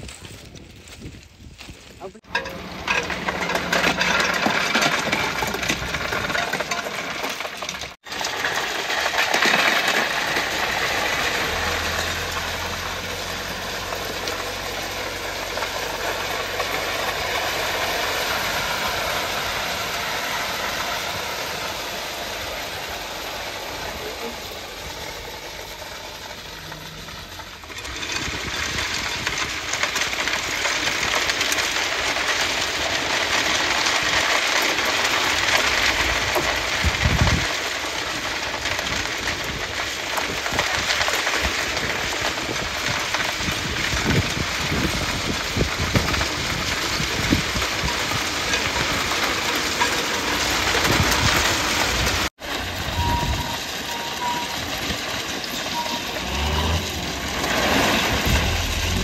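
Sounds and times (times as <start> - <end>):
stone ballast pouring and rattling: 0.0 - 59.0
truck engine and wheels: 0.0 - 59.0.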